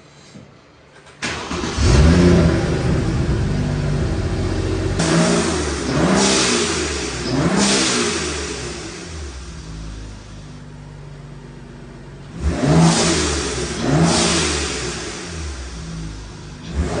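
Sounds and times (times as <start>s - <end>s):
car engine revving: 1.2s - 17.0s.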